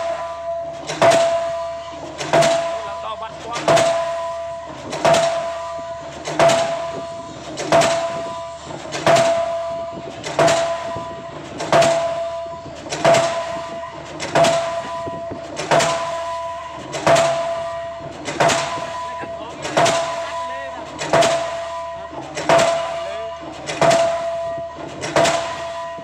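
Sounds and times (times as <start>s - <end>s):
pile hammer banging with ringing tone: 0.0s - 26.0s.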